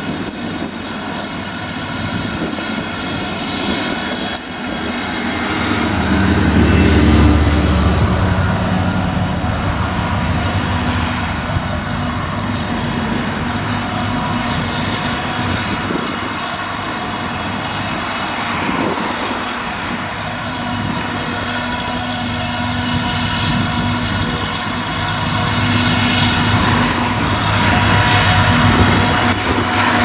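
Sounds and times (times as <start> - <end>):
forage harvester droning: 0.0 - 30.0
tractor engine running: 0.0 - 30.0.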